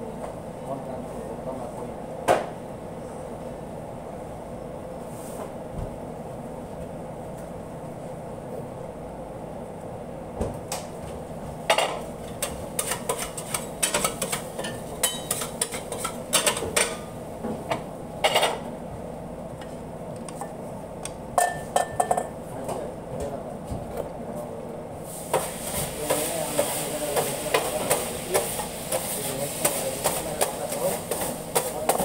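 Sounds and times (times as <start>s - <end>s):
steady background hum: 0.0s - 32.0s.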